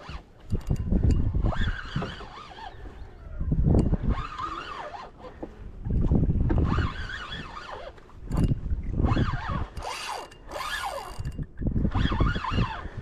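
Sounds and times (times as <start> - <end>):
fishing reel drag whining: 0.0 - 5.3, 6.6 - 13.0.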